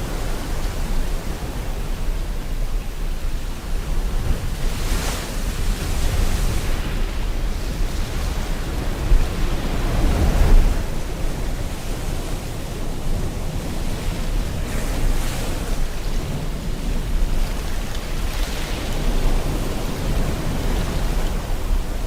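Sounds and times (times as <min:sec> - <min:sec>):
ocean surf: 0:00.0 - 0:22.0
rain: 0:00.0 - 0:22.0.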